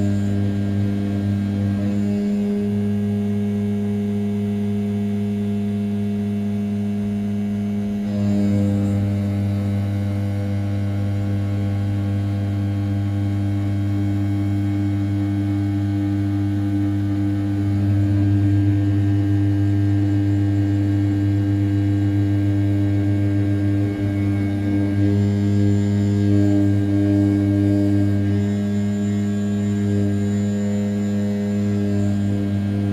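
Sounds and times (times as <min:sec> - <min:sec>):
milling spindle hum: 0:00.0 - 0:32.9.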